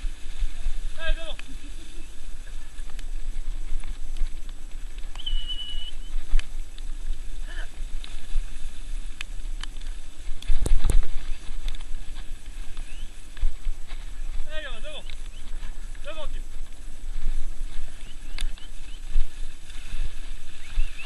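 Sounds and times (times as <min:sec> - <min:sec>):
kart rolling over rough trail: 0:00.0 - 0:21.0.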